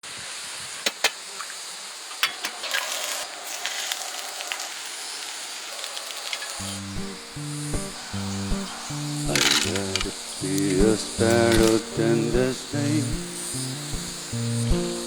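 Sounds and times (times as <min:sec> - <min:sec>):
steady hiss: 0:00.0 - 0:15.0
wood fire crackling: 0:02.4 - 0:15.0
fire popping: 0:02.7 - 0:15.0.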